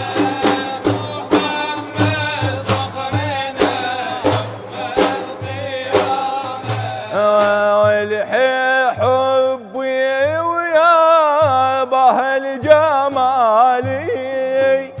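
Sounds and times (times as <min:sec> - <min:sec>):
frame drums beating: 0:00.0 - 0:15.0
man singing: 0:00.0 - 0:15.0.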